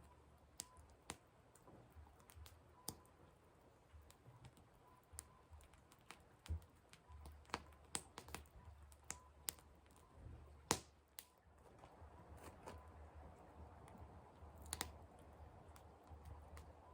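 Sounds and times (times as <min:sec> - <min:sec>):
firewood crackling and popping: 0:00.0 - 0:16.9.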